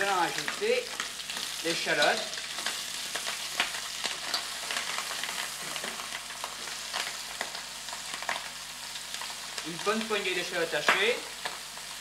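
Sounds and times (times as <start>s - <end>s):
lobster sizzling in butter: 0.0s - 12.0s.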